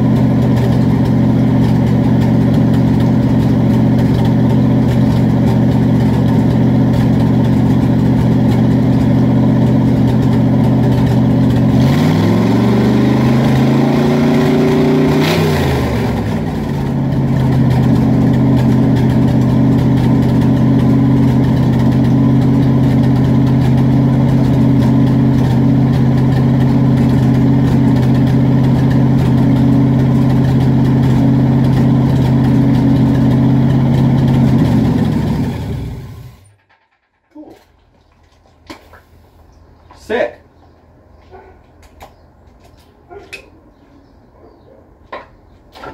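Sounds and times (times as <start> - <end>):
engine idling and revving: 0.0 - 37.2.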